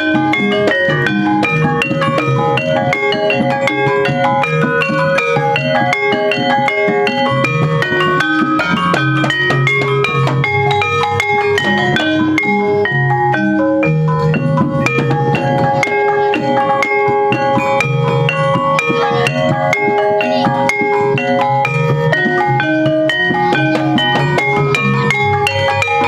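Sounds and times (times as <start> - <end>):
gamelan ensemble playing: 0.0 - 26.0
metallophones ringing: 0.0 - 26.0.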